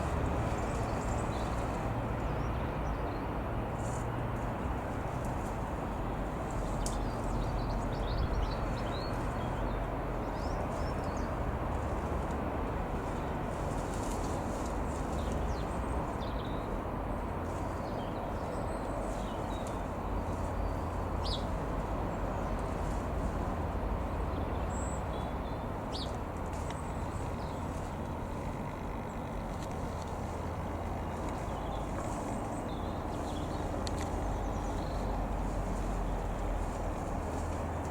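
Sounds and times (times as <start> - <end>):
outdoor rumble with low hum: 0.0 - 37.9.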